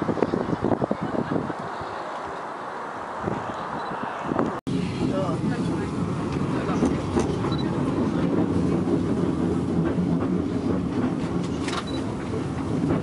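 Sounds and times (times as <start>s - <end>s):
funicular car rumbling on rails: 0.0s - 13.0s.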